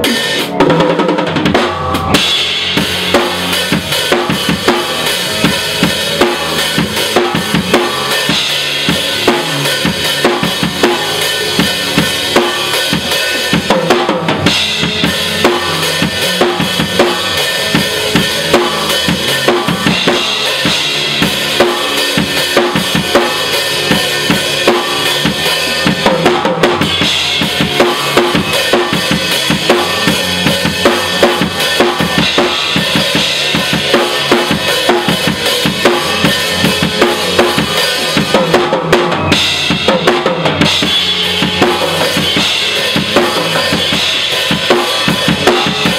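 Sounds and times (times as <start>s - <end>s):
kick and snare drum beat: 0.0s - 45.9s
live band playing: 0.0s - 45.9s.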